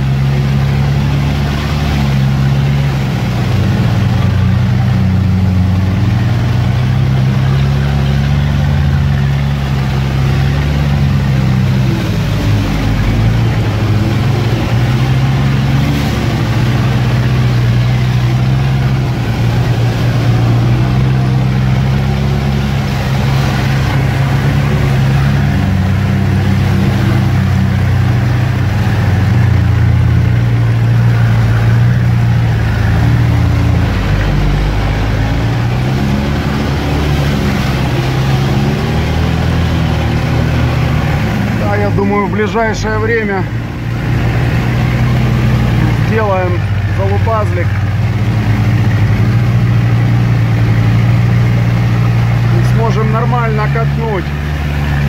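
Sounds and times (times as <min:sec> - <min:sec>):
rumbling noise: 0:00.0 - 0:55.0
vehicle engine running at low revs: 0:00.0 - 0:55.0.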